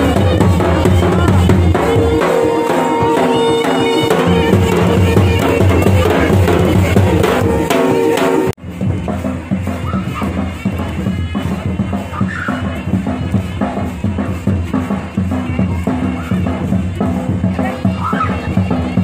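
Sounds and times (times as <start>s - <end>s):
music with heavy drum beat: 0.0s - 19.0s.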